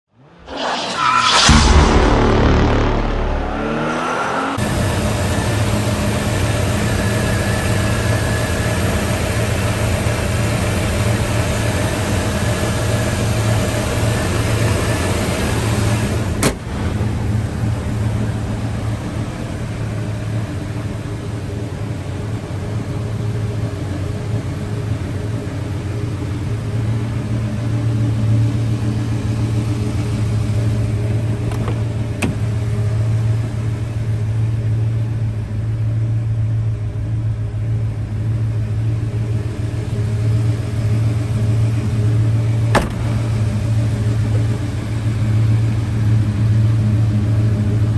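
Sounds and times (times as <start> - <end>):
pickup engine running: 1.5 - 47.9.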